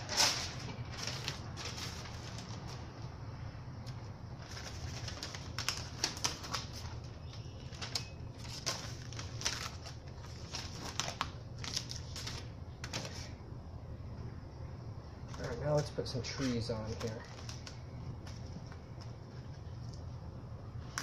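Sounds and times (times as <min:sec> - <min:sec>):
irregular crinkling: 0:00.0 - 0:03.2, 0:03.8 - 0:13.3, 0:15.2 - 0:20.2
steady low hum: 0:00.0 - 0:21.0.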